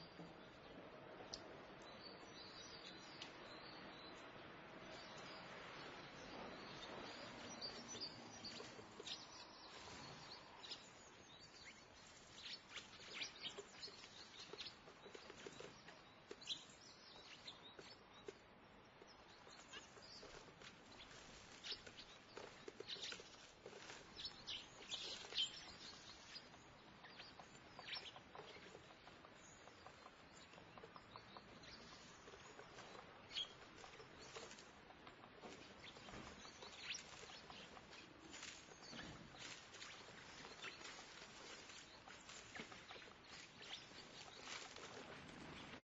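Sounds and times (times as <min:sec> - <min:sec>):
low town background haze: 0:00.0 - 0:45.8
small birds chirping: 0:00.0 - 0:45.9.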